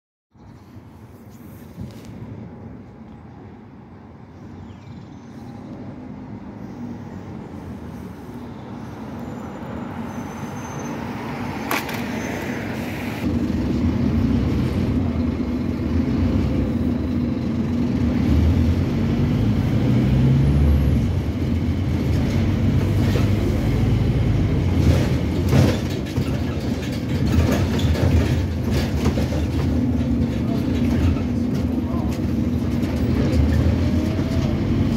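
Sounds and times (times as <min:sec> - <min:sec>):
bus engine drone: 0:00.4 - 0:34.9.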